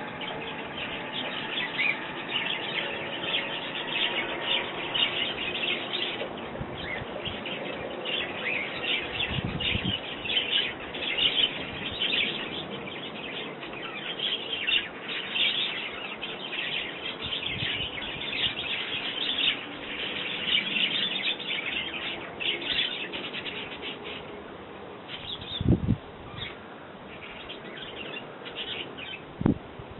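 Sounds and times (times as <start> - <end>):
small birds chirping: 0.0 - 29.5.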